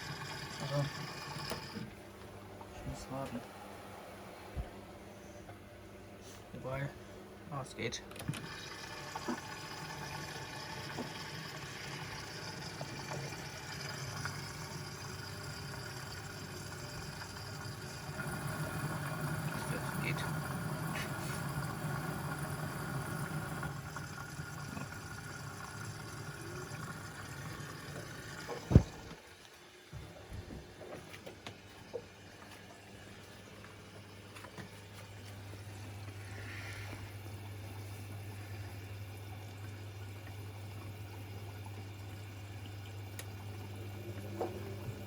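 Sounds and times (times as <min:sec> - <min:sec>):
washing machine humming: 0:00.0 - 0:45.0.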